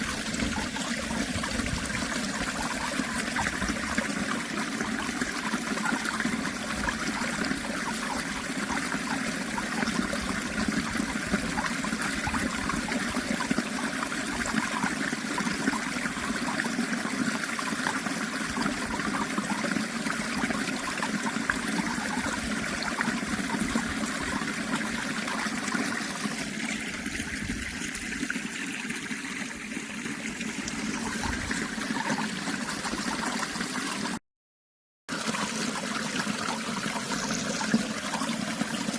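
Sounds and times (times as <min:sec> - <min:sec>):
water trickling: 0:00.0 - 0:34.2, 0:35.1 - 0:38.9.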